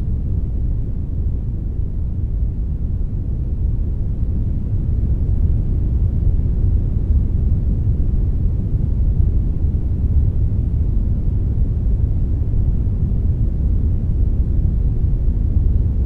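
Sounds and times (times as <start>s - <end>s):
brown noise rumble: 0.0s - 16.0s.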